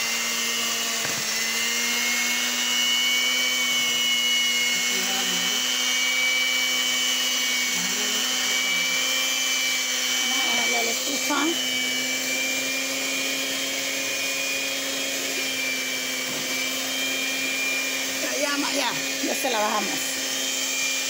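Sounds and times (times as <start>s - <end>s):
electric hand mixer whisking batter: 0.0s - 21.0s.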